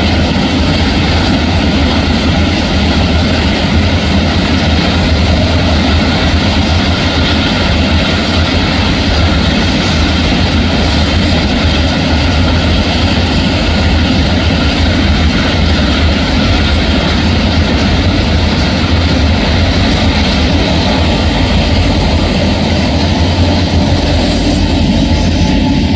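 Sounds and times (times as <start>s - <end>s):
diesel locomotive engines rumbling: 0.0s - 25.9s
wagons rolling on rails: 0.0s - 25.9s.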